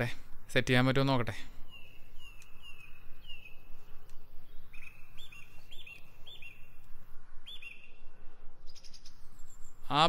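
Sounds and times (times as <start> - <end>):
low outdoor background hum: 0.0 - 10.0
bird chirping: 1.4 - 10.0.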